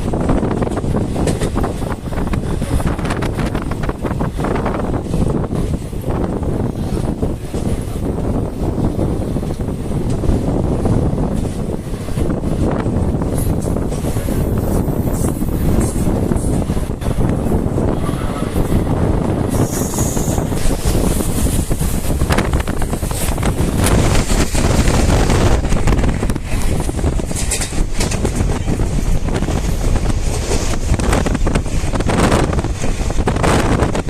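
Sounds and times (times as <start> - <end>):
train rattling and clatter: 0.0 - 34.0
train rumbling: 0.0 - 34.0
wind buffeting microphone: 0.0 - 34.0.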